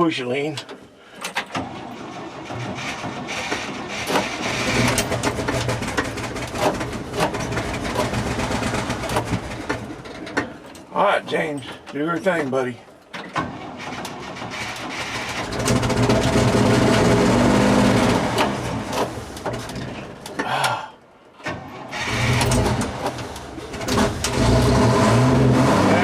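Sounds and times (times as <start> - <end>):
engine cranking and running unevenly: 1.1 - 10.9, 13.2 - 26.0.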